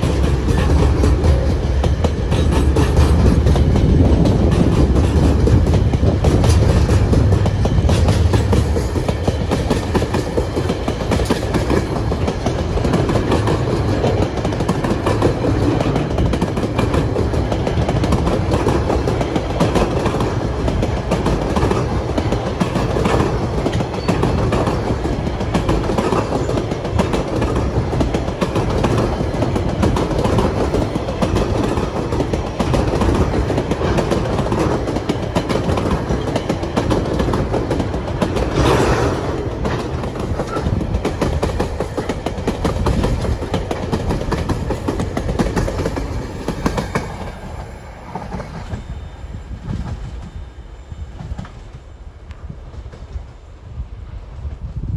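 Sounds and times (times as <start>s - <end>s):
train wheels clattering on rails: 0.0s - 54.9s.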